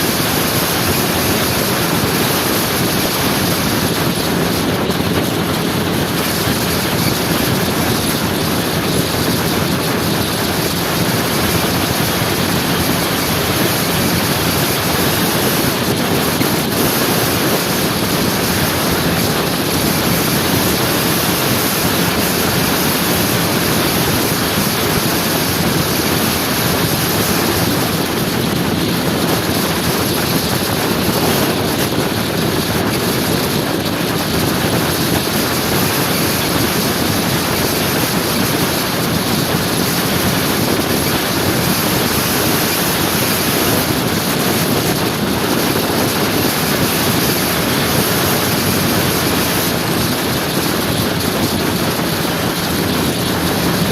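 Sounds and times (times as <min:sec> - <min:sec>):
scooter engine and road noise: 0:00.0 - 0:53.9
wind noise on microphone: 0:00.0 - 0:53.9.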